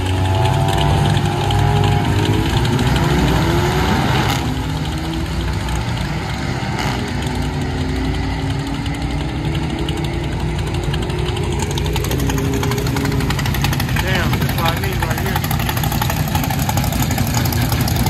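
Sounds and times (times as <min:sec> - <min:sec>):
car accelerating hard: 0:00.0 - 0:18.0
low engine rumble: 0:00.0 - 0:18.0.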